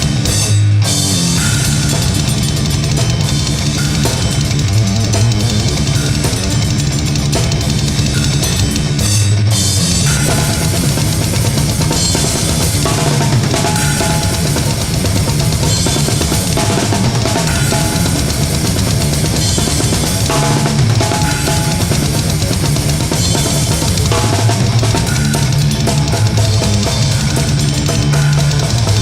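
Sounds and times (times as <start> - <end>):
dense low-pitched backing: 0.0 - 29.0
drum kit playing: 0.0 - 29.0.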